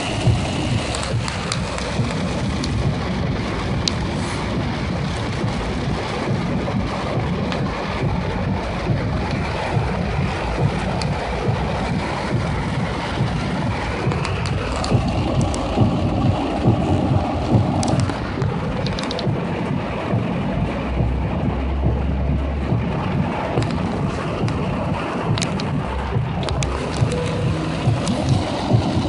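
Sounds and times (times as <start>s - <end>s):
heavy rain on car roof: 0.0s - 29.0s.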